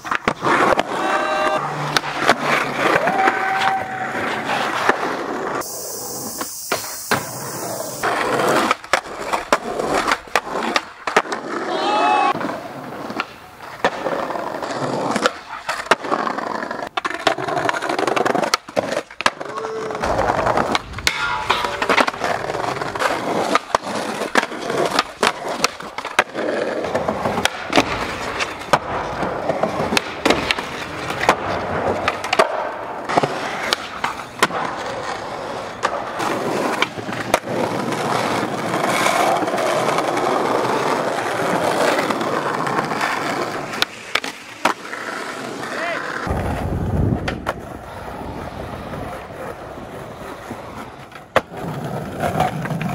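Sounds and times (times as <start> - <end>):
skateboard clacking: 0.0 - 52.9
skateboard wheels rolling on concrete: 0.0 - 52.9.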